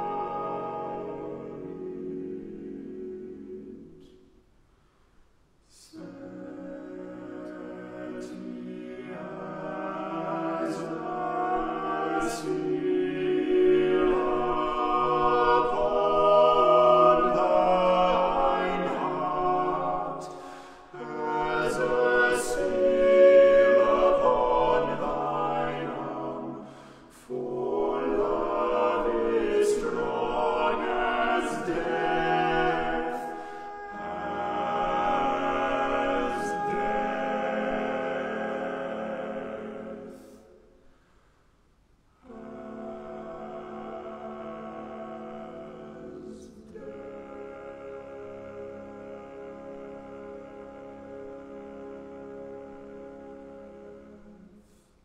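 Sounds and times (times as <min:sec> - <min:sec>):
male choir singing a cappella: 0:00.0 - 0:04.2, 0:05.7 - 0:40.6, 0:42.2 - 0:54.8.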